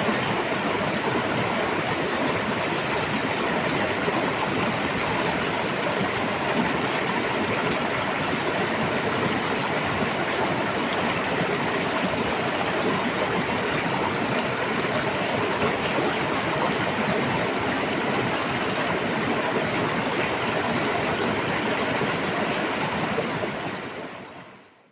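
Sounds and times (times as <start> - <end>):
stream water rushing: 0.0 - 24.7.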